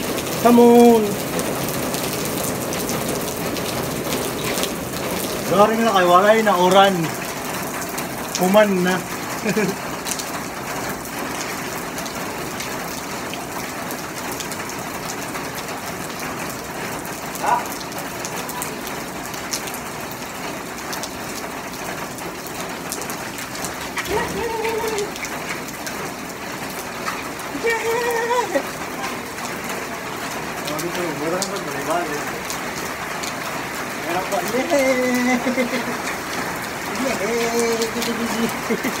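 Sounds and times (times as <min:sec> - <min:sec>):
rain hissing on street: 0:00.0 - 0:39.0.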